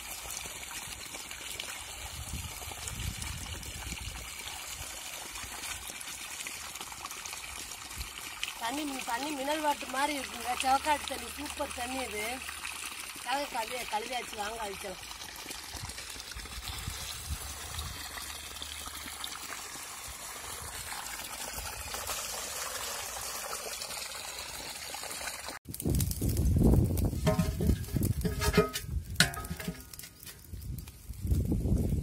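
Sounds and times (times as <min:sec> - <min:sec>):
water running from a hose: 0:00.0 - 0:32.0.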